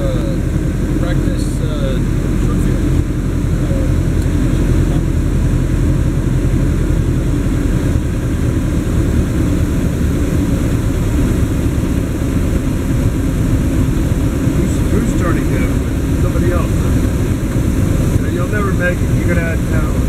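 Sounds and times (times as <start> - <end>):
light airplane engine drone: 0.0 - 20.0.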